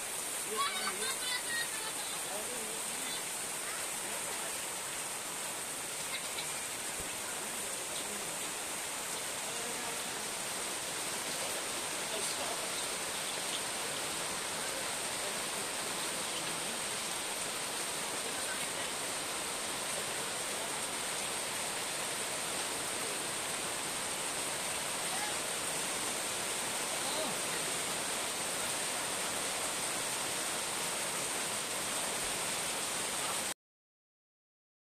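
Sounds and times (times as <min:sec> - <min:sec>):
rain falling on pool water: 0:00.0 - 0:33.6.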